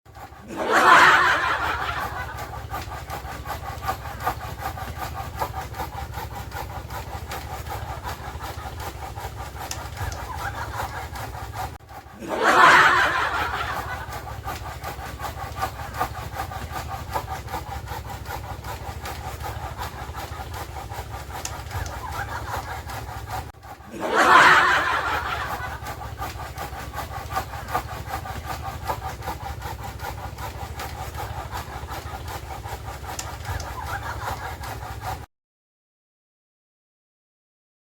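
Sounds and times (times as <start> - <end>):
chainsaw cutting wood: 0.1 - 35.3.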